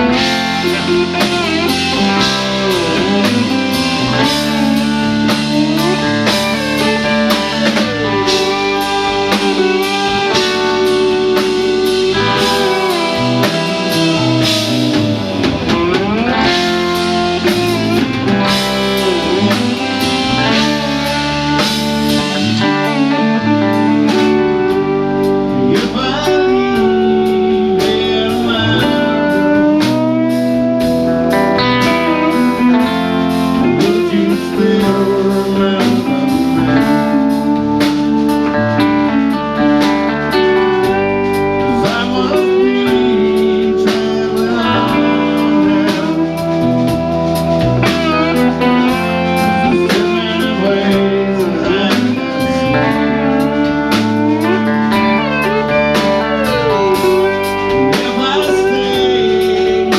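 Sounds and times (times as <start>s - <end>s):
bass guitar: 0.0s - 59.9s
electric lead guitar: 0.0s - 59.9s
steady drum beat: 0.0s - 59.9s.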